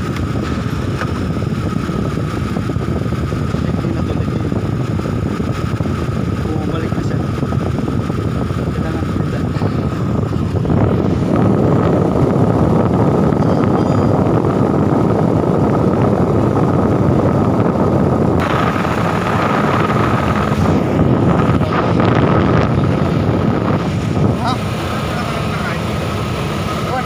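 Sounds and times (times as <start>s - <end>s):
diesel truck engine running: 0.0s - 27.0s
steady whine: 0.0s - 27.0s.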